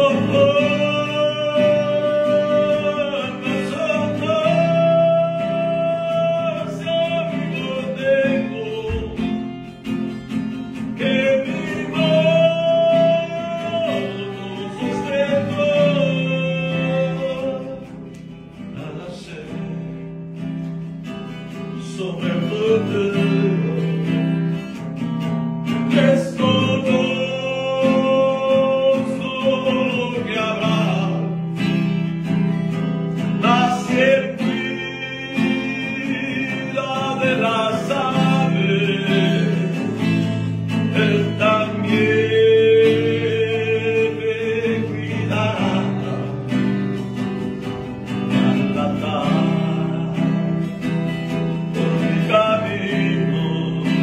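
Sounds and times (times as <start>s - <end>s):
man singing a hymn: 0.0s - 24.8s, 25.6s - 54.0s
acoustic guitar strumming: 0.0s - 54.0s.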